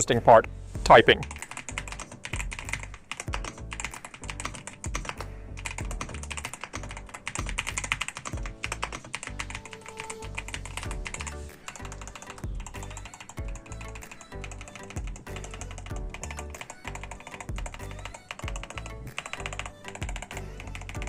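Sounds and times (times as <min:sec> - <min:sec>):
background music with low beat: 0:00.0 - 0:21.0
mechanical keyboard typing: 0:01.2 - 0:21.0.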